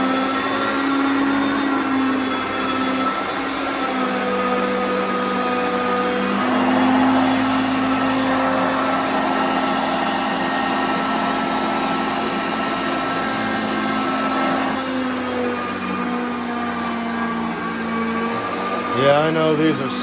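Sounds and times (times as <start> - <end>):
upright vacuum cleaner running: 0.0 - 20.0.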